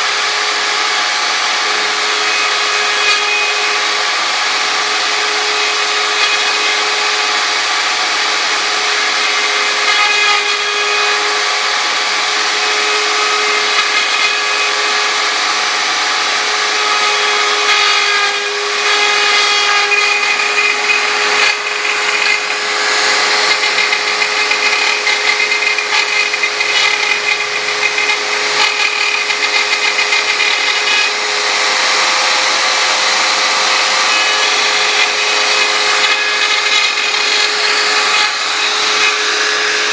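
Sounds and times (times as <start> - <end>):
bit grinding into workpiece: 0.0 - 39.9
router spindle whine: 0.0 - 39.9.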